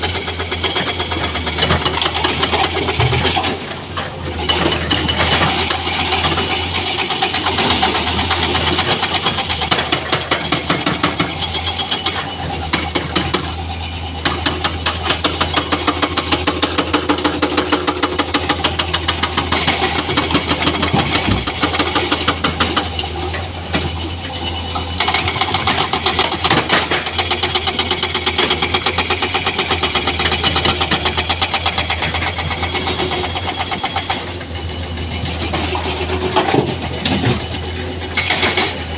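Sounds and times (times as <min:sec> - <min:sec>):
heavy diesel engine clattering: 0:00.0 - 0:38.9.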